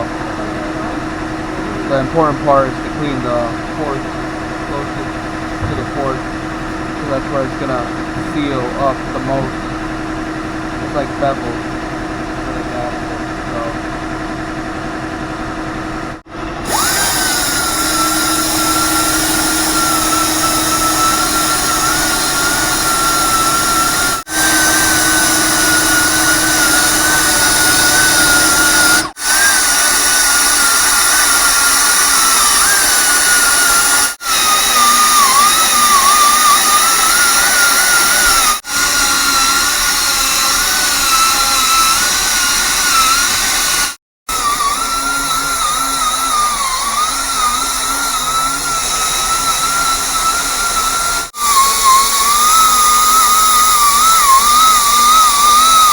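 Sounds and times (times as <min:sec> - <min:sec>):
power tool whining on metal: 0:00.0 - 0:55.9.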